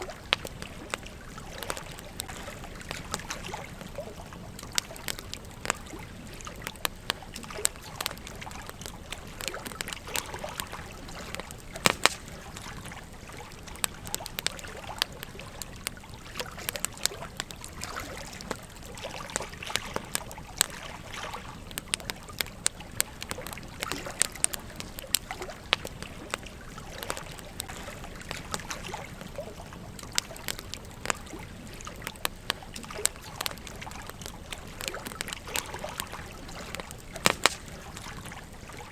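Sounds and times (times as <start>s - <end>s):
campfire crackling and popping: 0.0s - 38.9s
gentle stream trickling: 0.0s - 38.9s.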